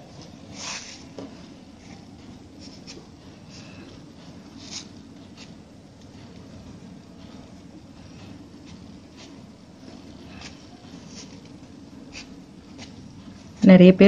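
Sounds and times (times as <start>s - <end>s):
steady low hum: 0.0s - 14.0s
cloth rustling and rubbing: 0.2s - 3.8s, 4.4s - 6.3s, 7.2s - 13.0s.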